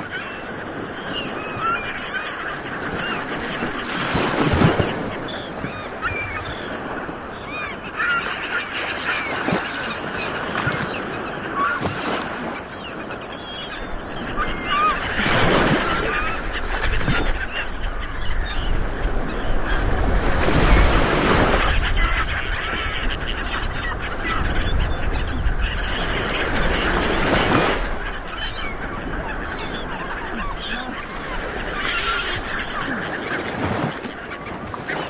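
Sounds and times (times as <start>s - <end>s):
honking bird calls: 0.0s - 35.0s.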